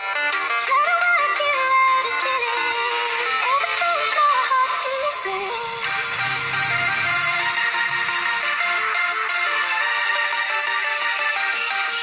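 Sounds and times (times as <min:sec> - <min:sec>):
background music melody: 0:00.0 - 0:12.0.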